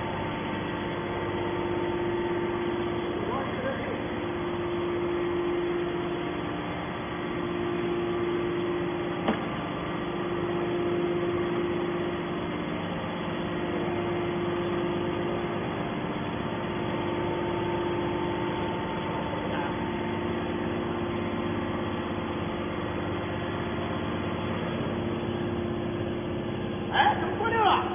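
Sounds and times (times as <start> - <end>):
baler motor humming: 0.0 - 27.9.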